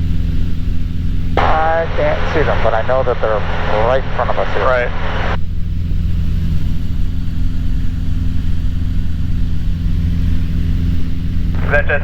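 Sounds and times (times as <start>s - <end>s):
aircraft engine droning in cabin: 0.0s - 12.0s.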